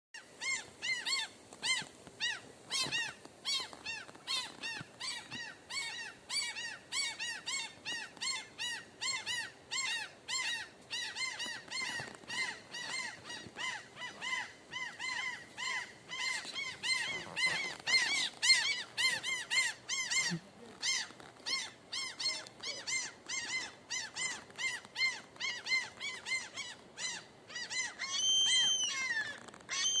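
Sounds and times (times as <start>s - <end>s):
bird chirping: 0.4s - 30.0s.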